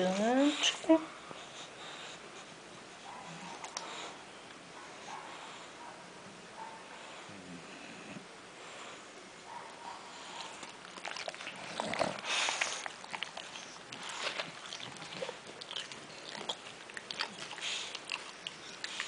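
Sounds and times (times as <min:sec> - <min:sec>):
dog sniffing and snuffling: 0:00.0 - 0:04.2, 0:06.6 - 0:19.0.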